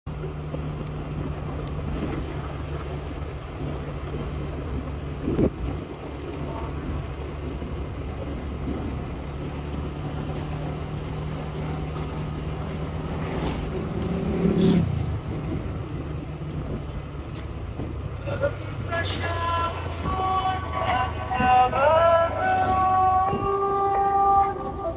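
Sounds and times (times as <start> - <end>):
road noise: 0.0 - 24.9.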